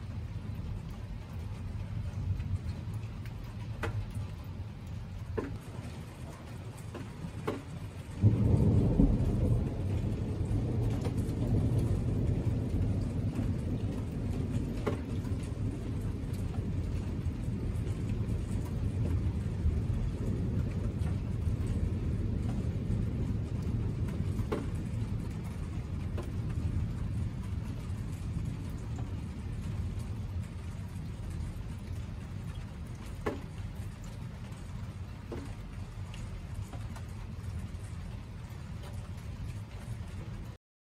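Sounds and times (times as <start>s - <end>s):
thunder rumbling: 0.0s - 40.6s.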